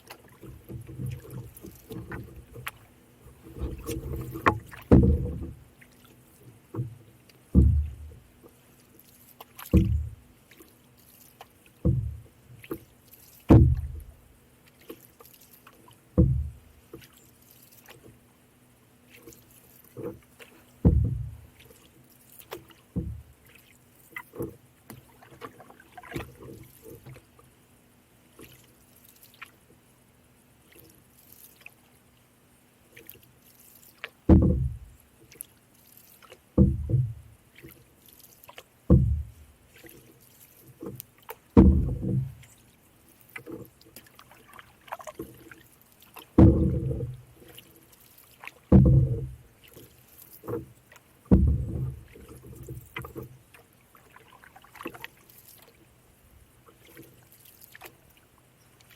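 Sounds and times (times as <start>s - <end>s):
small clicks and drips: 0.0s - 18.3s, 19.0s - 27.6s, 28.2s - 29.9s, 30.6s - 32.3s, 32.9s - 58.9s
paddle stroke: 0.0s - 58.9s.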